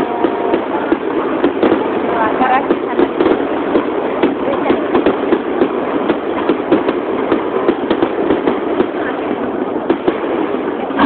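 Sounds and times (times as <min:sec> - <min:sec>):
continuous din: 0:00.0 - 0:11.0
fireworks bursting with bangs: 0:00.0 - 0:11.0.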